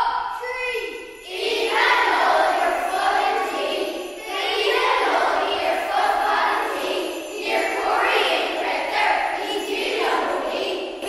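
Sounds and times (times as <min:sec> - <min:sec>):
children's voices together: 0:00.0 - 0:11.0.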